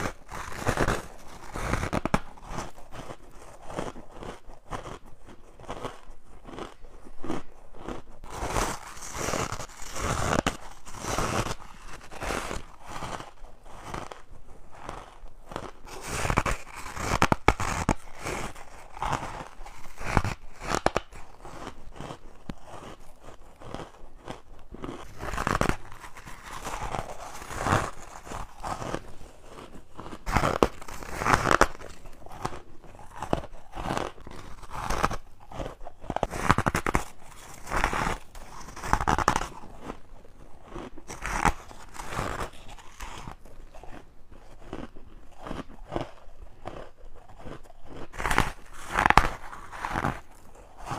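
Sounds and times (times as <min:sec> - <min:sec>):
teeth crunching ice: 0:00.0 - 0:50.9.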